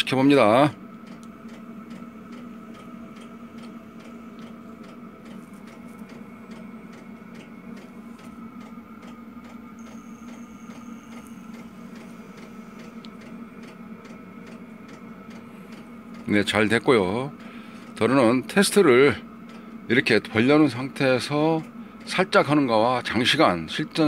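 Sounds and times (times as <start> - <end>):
cooling fan ticking: 0.0 - 24.0
induction heater humming: 0.0 - 24.0.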